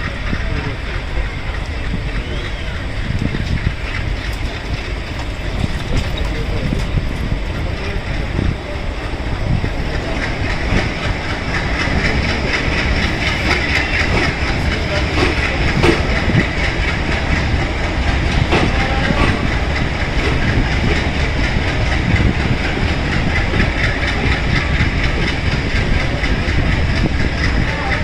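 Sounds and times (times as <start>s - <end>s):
train rumbling on track: 0.0s - 28.0s
wheels clacking over rail joints: 0.0s - 28.0s.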